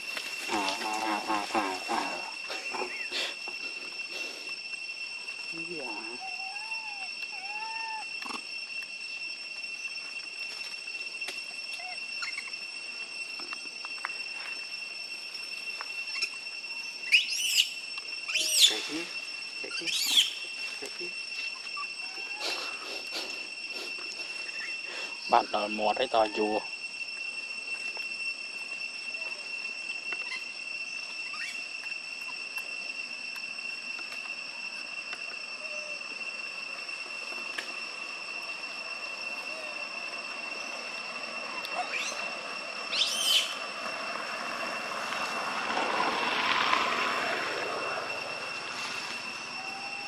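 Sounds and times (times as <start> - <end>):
high insect drone: 0.0 - 50.0.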